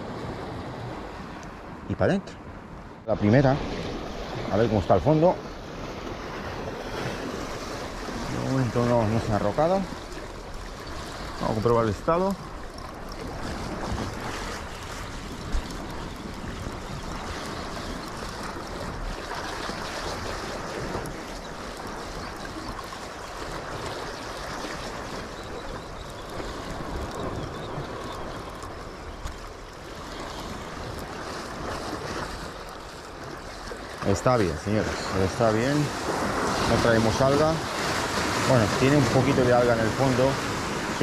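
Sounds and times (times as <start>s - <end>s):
sea waves on rocky shore: 0.0s - 41.0s
wind on microphone: 2.5s - 41.0s.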